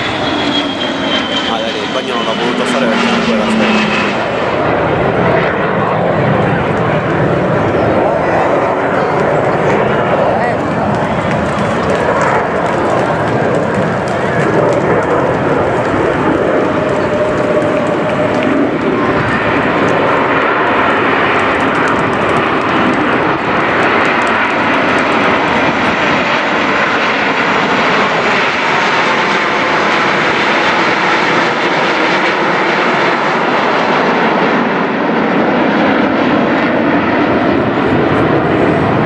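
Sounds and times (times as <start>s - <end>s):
jet aircraft flying past: 0.0s - 39.0s.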